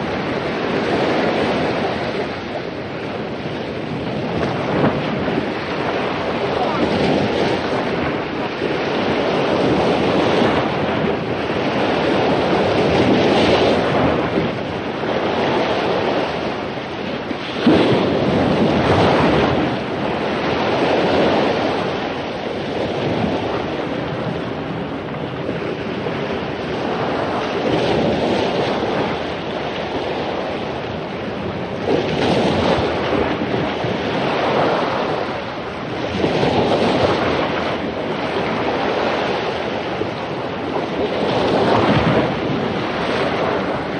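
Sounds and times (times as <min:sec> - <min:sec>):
heavy surf crashing: 0:00.0 - 0:43.9
wind rumble on microphone: 0:00.0 - 0:43.9.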